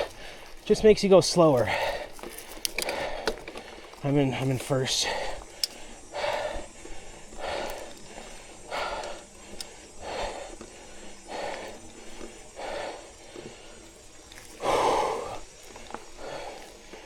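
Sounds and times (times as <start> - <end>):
person breathing hard: 0.0 - 17.0.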